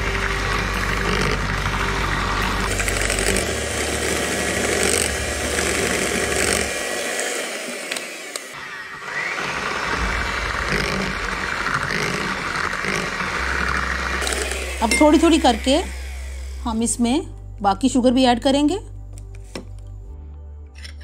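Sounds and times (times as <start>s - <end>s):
electric hand mixer whirring: 0.0s - 17.1s.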